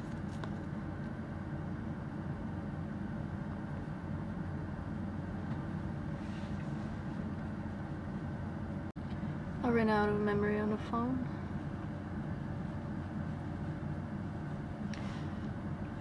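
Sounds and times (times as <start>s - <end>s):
bus interior hum and rumble: 0.0s - 16.0s.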